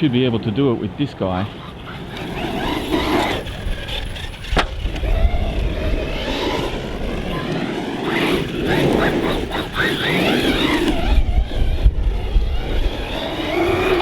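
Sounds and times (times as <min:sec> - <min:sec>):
electric motor whining: 0:01.5 - 0:14.0.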